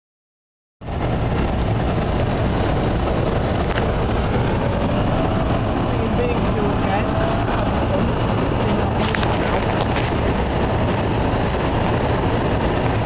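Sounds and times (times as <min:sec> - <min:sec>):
car engine and road noise: 0:00.8 - 0:13.0.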